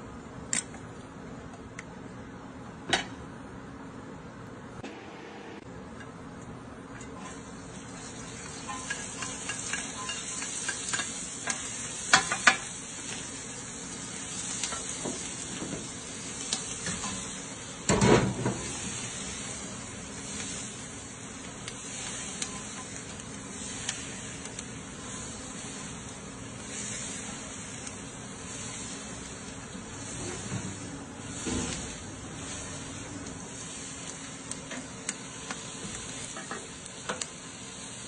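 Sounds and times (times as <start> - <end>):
food sizzling in a wok drum: 7.1 - 38.0.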